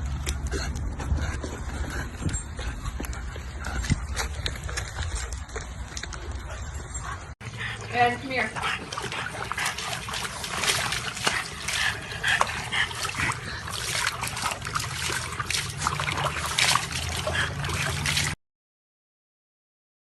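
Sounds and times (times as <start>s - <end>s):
water splashing and trickling: 0.0s - 18.4s.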